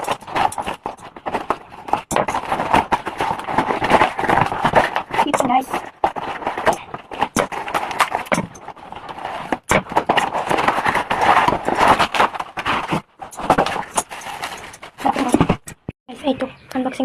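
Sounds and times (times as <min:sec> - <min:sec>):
packaging crackling and rustling: 0:00.0 - 0:15.9
sharp clicks and knocks: 0:00.0 - 0:15.9.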